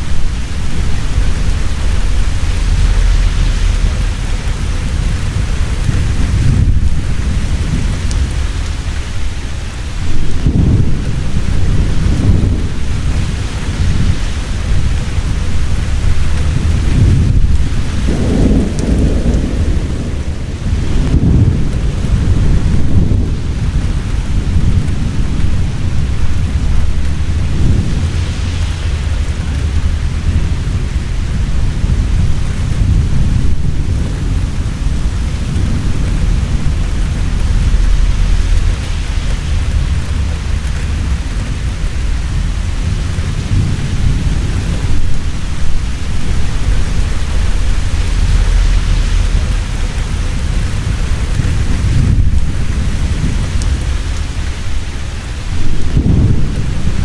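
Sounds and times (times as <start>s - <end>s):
heavy rain pouring: 0.0s - 57.0s
thunder rumbling: 0.0s - 57.0s.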